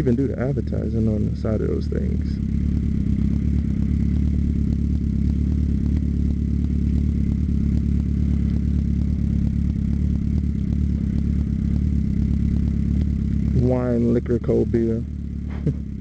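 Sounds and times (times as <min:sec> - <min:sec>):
motorcycle engine running low: 0:00.0 - 0:16.0.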